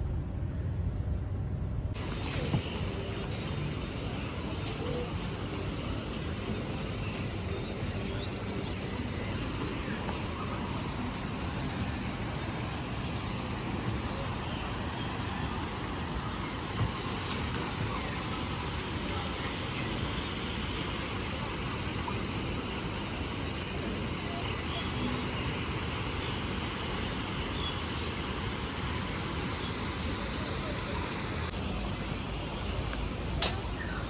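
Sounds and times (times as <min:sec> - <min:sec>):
steady rumbling background noise: 0:00.0 - 0:34.0
faint high whine: 0:02.0 - 0:34.0.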